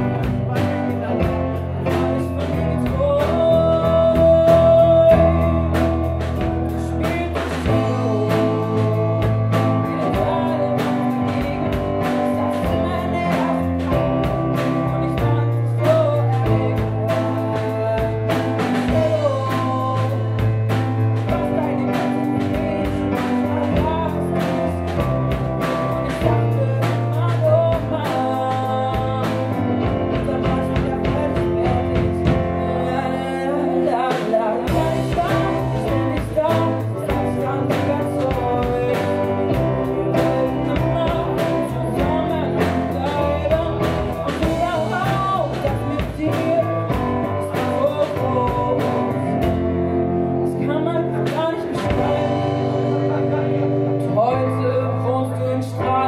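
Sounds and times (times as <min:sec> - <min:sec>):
drums: 0:00.0 - 0:56.0
electric guitar: 0:00.0 - 0:56.0
keyboard: 0:00.0 - 0:56.0
woman singing: 0:00.0 - 0:56.0.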